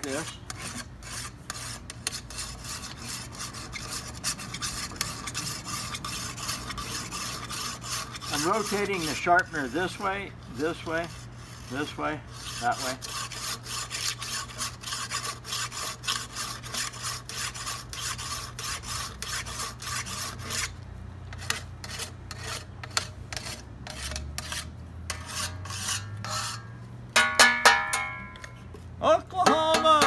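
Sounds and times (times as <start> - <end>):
knife sharpener rasping on metal pan: 0.0 - 10.1, 10.7 - 28.5.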